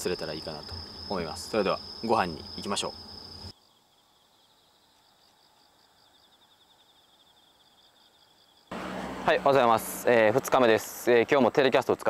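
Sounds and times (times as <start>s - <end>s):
insects trilling: 0.0s - 12.0s
soft pulsing insect call: 0.0s - 12.0s.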